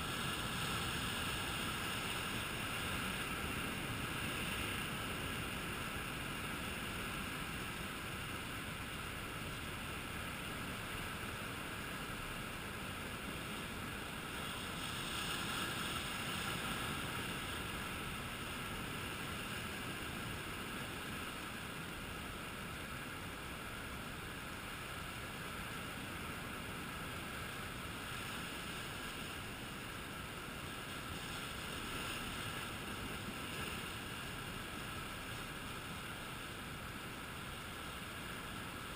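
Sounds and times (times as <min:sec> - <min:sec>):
surf washing over rocks: 0:00.0 - 0:38.9.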